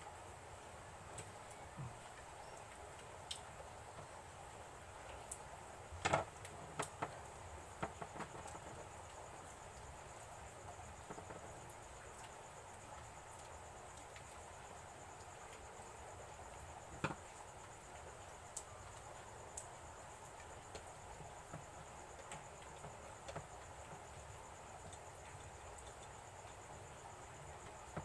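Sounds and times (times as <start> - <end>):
faint hiss: 0.0 - 28.0.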